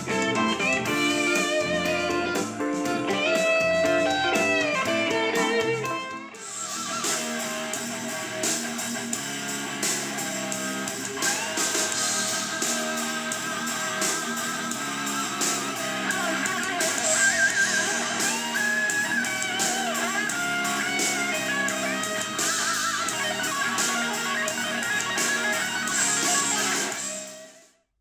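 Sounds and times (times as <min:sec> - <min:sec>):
guitar pop music from speaker: 0:00.0 - 0:27.7.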